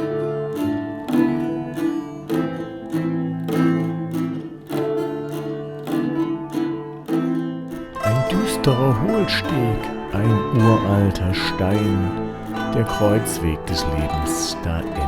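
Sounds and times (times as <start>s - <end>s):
plucked string instruments playing: 0.0s - 15.0s.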